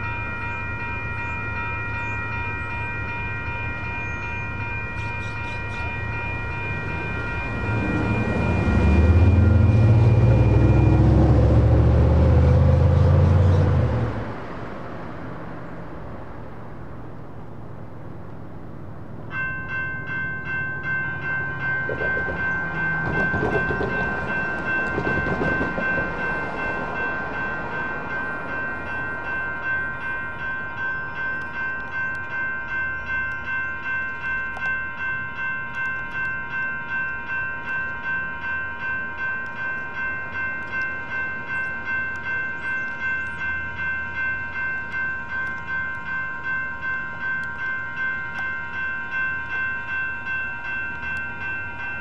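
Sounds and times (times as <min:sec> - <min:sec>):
railroad crossing warning bell: 0:00.0 - 0:52.0
road traffic rumble: 0:00.0 - 0:52.0.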